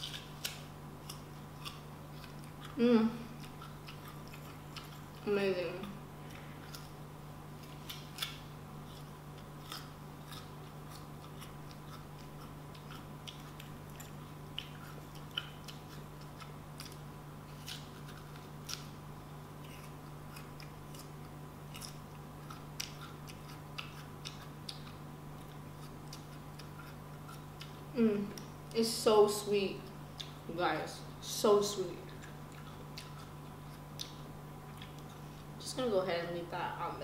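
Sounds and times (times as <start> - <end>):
person biting and chewing fruit: 0.0 - 28.8, 32.0 - 35.6.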